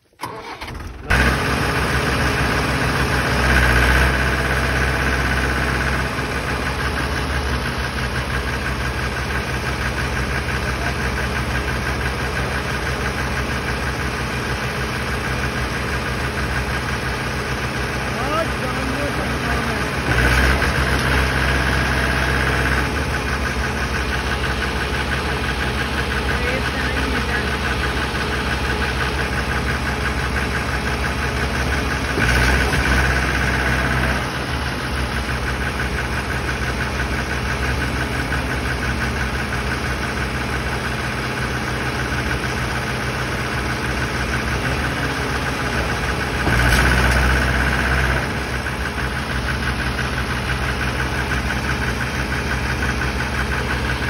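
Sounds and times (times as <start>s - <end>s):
tractor diesel engines under load: 0.0s - 54.0s.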